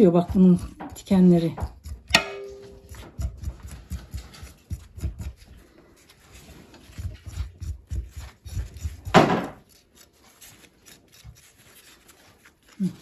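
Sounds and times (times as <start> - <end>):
knife scraping cactus: 0.0 - 13.0.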